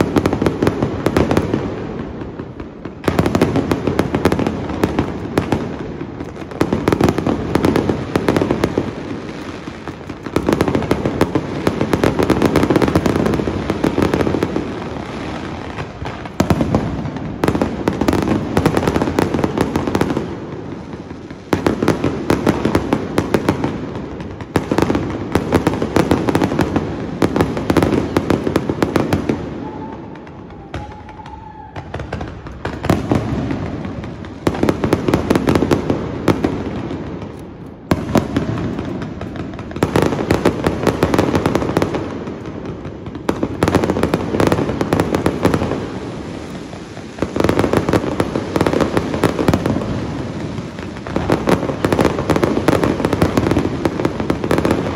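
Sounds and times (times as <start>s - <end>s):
fireworks crackling and banging: 0.0s - 54.9s.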